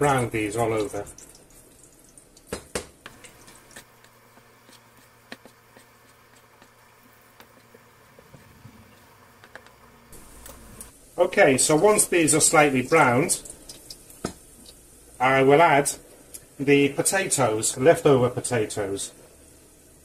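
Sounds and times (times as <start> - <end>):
garlic sizzling in oil: 0.0 - 17.0.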